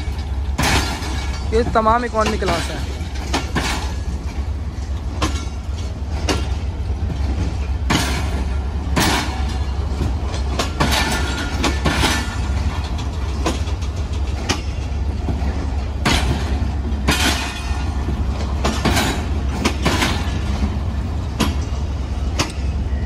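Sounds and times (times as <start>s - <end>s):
train wheels clacking over rail joints: 0.0s - 23.0s.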